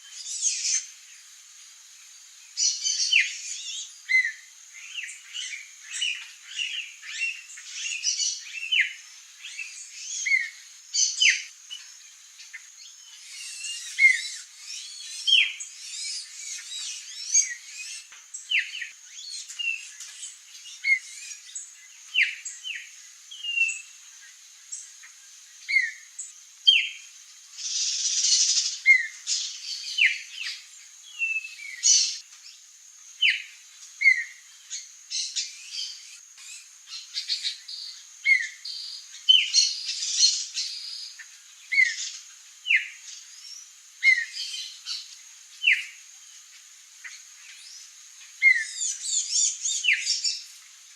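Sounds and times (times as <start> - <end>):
songbirds chirping and whistling: 0.0 - 50.9.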